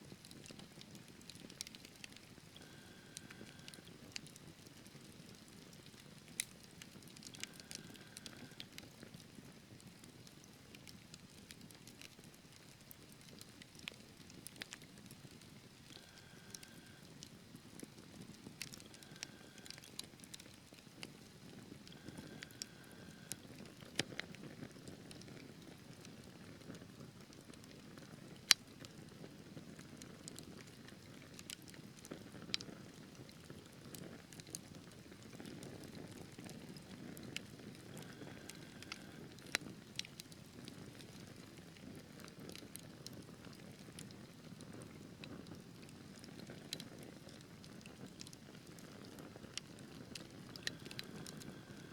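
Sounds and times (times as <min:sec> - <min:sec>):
wood fire crackling: 0:00.1 - 0:51.9.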